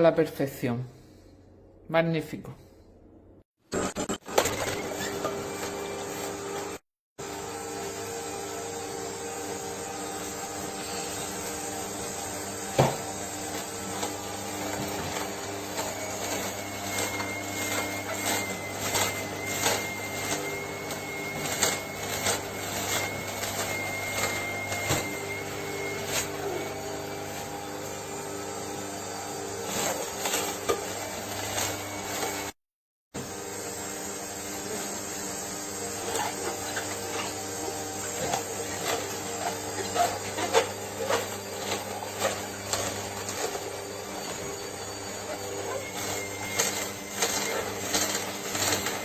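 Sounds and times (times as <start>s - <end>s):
juicer motor humming: 3.8s - 32.5s, 33.2s - 49.0s.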